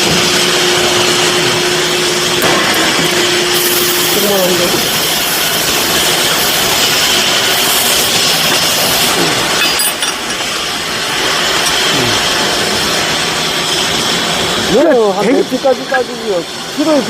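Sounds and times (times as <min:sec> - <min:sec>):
hydraulic machine running: 0:00.0 - 0:17.0.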